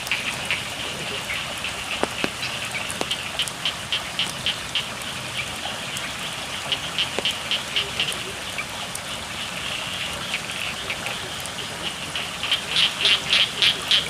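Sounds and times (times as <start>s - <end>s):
frogs calling: 0.0s - 14.0s
steady rain falling: 0.0s - 14.0s.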